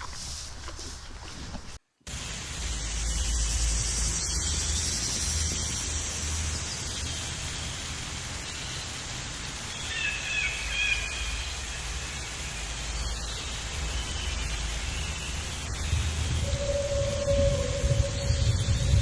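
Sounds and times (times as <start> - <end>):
steady rushing noise: 2.1 - 19.0.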